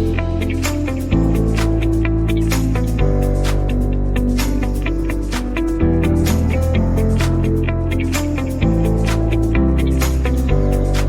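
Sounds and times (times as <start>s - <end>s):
plucked guitar: 0.0s - 11.0s.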